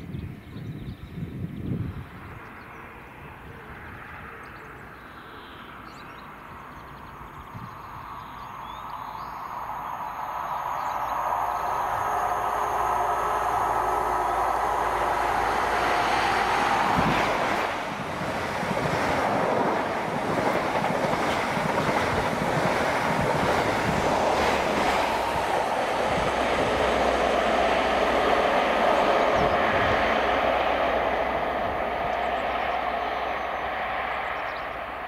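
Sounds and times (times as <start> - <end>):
diesel train drone: 1.2 - 35.0
train rushing past: 5.0 - 35.0.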